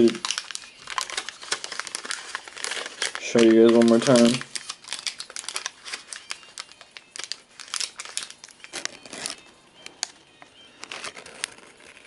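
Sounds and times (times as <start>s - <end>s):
wrapper crinkling: 0.0s - 12.0s.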